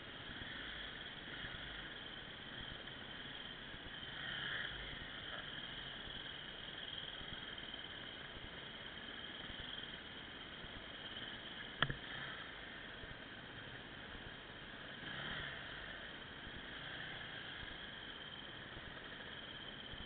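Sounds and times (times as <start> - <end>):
faint muffled hiss: 0.0 - 20.0.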